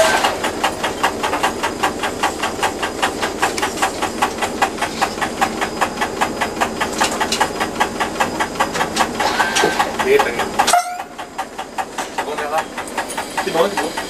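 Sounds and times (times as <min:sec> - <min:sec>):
train engine pulsing: 0:00.0 - 0:14.0.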